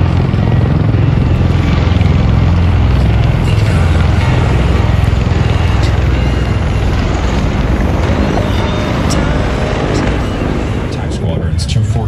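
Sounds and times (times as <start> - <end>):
tiltrotor aircraft rotor drone: 0.0 - 12.0.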